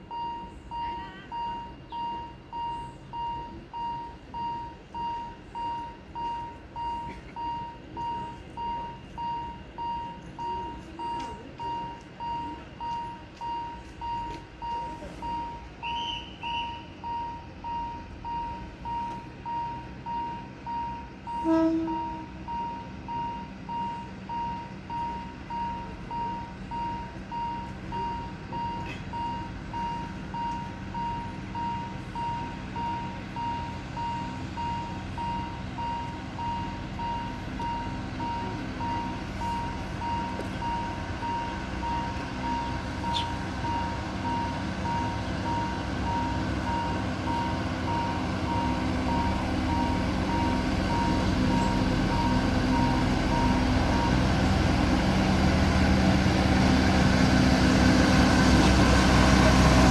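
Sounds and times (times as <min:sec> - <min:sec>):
diesel locomotive engine hum: 0:00.0 - 0:59.9.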